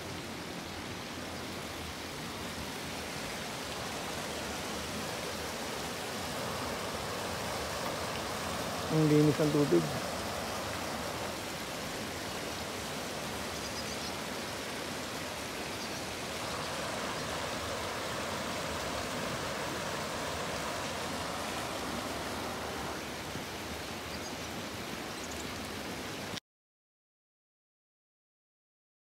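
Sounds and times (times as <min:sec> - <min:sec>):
water flowing into a pond: 0:00.0 - 0:26.4.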